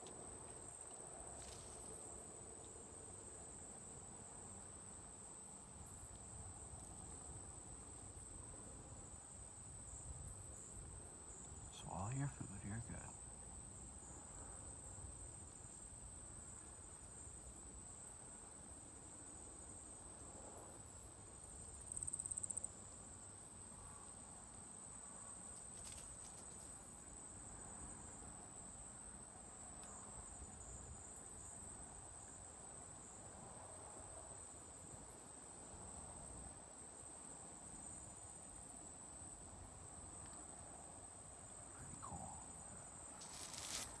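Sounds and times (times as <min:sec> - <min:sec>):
night insects trilling: 0:03.0 - 0:44.0.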